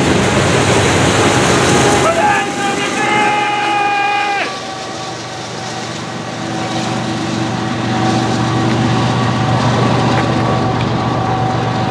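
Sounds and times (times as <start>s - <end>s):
diesel locomotive engine drone: 0.0s - 11.9s
train rolling noise: 0.0s - 11.9s.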